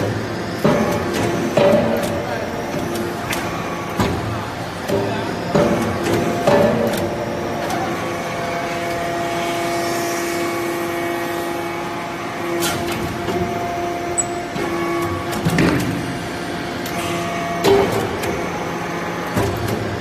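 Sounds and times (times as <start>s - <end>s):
hydraulic unit humming: 0.0s - 20.0s.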